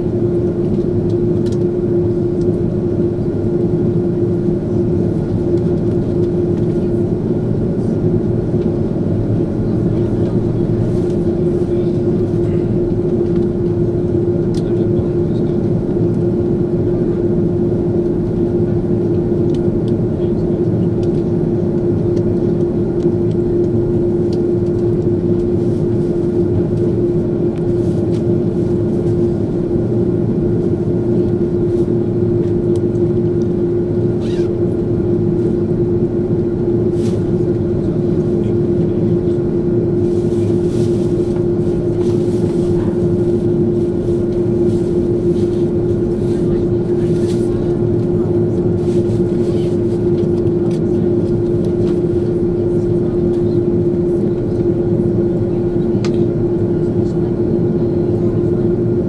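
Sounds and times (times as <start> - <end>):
aircraft engine hum: 0.0 - 59.0.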